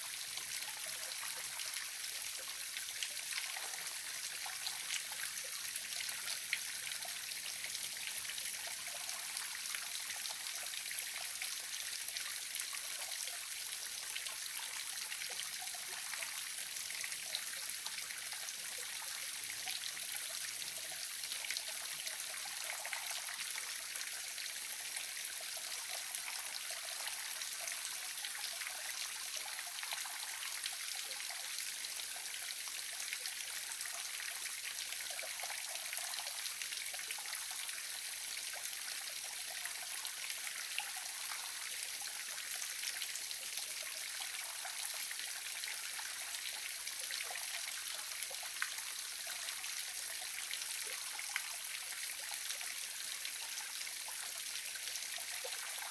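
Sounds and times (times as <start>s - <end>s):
small waterfall splashing: 0.0s - 55.9s.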